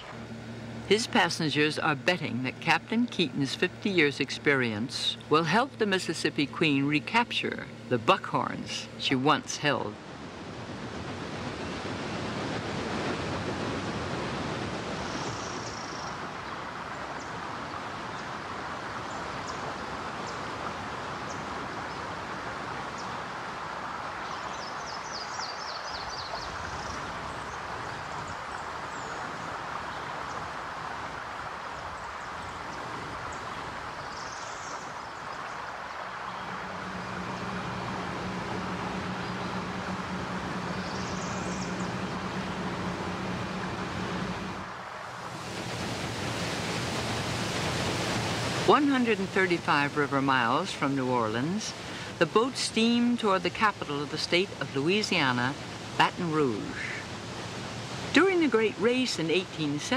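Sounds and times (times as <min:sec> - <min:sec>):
boat engine hum: 0:00.0 - 0:59.9
churning river water: 0:00.0 - 0:59.9
wind: 0:00.0 - 0:59.9.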